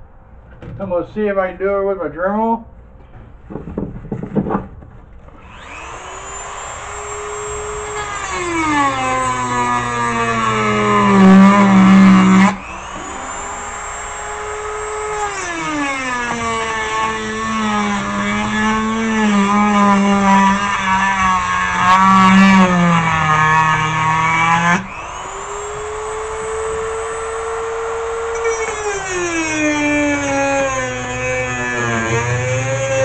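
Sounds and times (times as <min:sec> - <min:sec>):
rotary tool cutting metal: 0:05.4 - 0:33.0.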